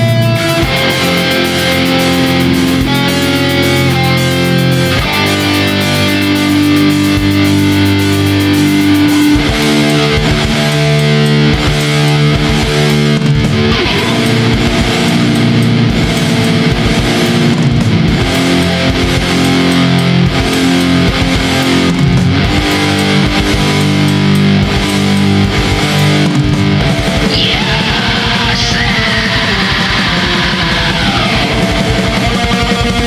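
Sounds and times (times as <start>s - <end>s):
distorted electric guitar chords: 0.0s - 33.0s
drum beat of low strikes: 0.0s - 33.0s.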